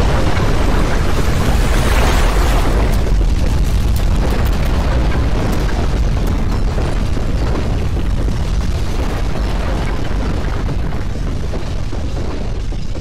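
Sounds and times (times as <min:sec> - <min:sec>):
deep earthquake rumble: 0:00.0 - 0:13.0
faint crackles: 0:00.0 - 0:13.0.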